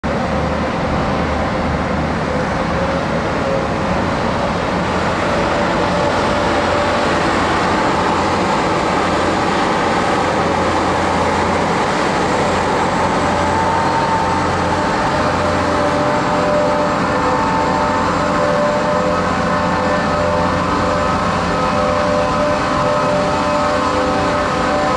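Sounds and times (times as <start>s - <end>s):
heavy traffic engine rumble: 0.0s - 24.9s
road noise: 0.0s - 24.9s.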